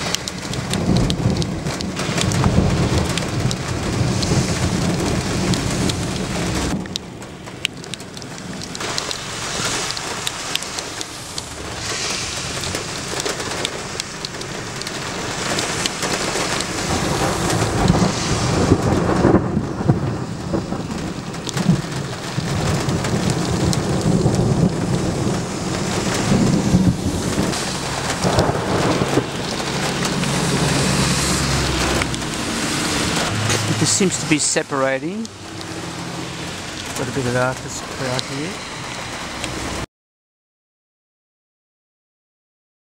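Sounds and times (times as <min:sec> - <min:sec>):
thunder rumbling: 0:00.0 - 0:39.8
steady rain falling: 0:00.0 - 0:39.9.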